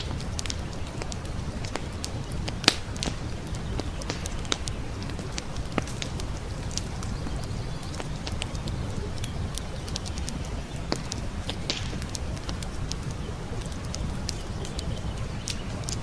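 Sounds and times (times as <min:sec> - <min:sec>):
campfire crackling and popping: 0:00.0 - 0:16.0
flowing brook: 0:00.0 - 0:16.0.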